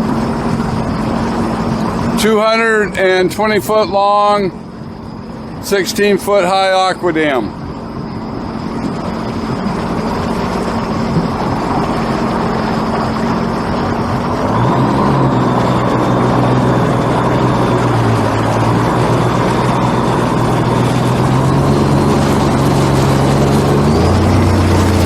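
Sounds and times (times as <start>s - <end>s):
large engine running under load: 0.0s - 25.0s.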